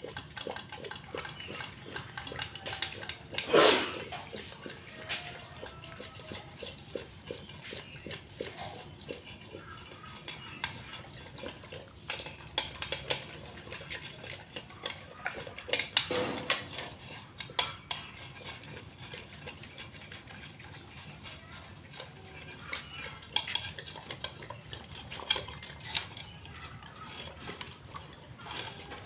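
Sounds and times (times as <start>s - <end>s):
dog lapping and chewing: 0.0s - 29.0s.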